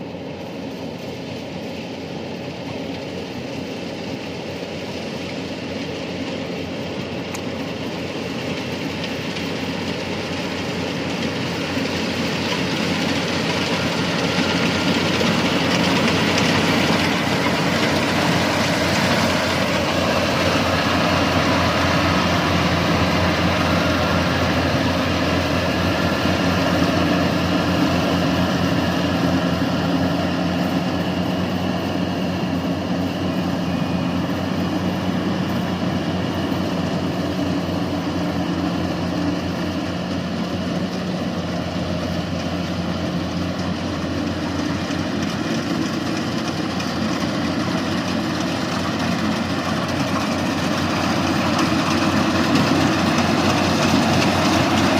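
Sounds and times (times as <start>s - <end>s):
combine harvester engine droning: 0.0s - 54.9s.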